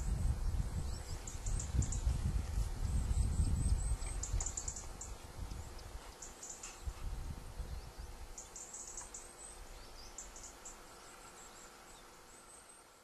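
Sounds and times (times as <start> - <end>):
small bird chirping: 0.1 - 2.2, 2.9 - 13.0.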